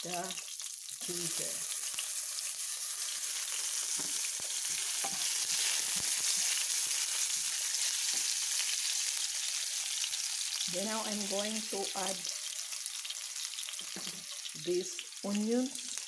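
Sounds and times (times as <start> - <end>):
garlic sizzling in hot oil: 0.0 - 16.0.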